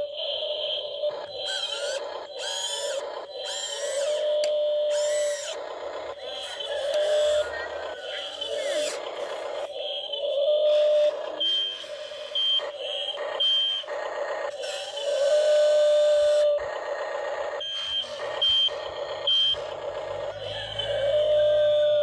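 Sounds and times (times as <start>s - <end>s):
toy excavator motor whine: 0.0s - 22.0s.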